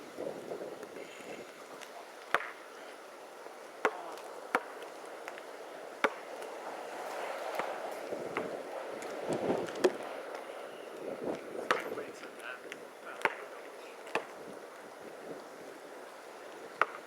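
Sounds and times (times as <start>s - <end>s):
wind noise: 0.0s - 2.2s, 4.3s - 17.0s.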